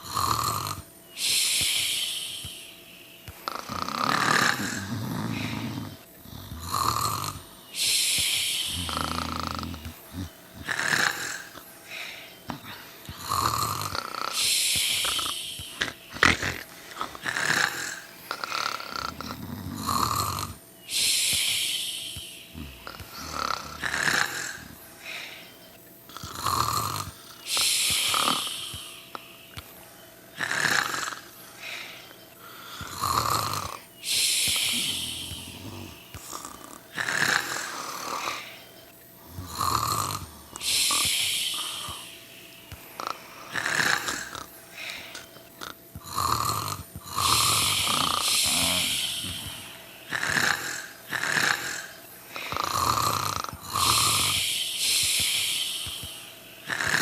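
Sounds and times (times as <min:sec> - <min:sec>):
person snoring: 0:00.0 - 0:02.7, 0:03.3 - 0:29.2, 0:30.4 - 0:57.0.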